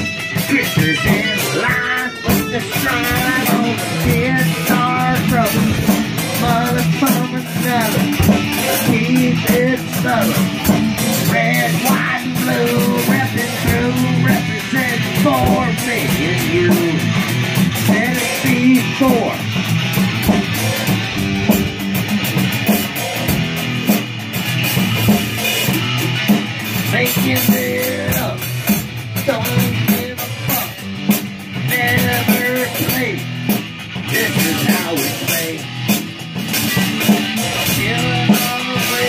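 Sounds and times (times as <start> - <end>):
drum kit: 0.0 - 39.0
electric guitar: 0.0 - 39.0.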